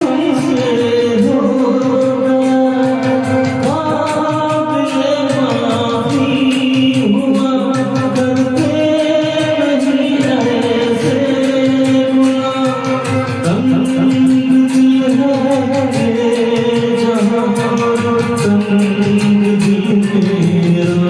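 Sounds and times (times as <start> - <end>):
percussion beat: 0.0 - 21.0
person singing ornamented notes: 0.0 - 21.0.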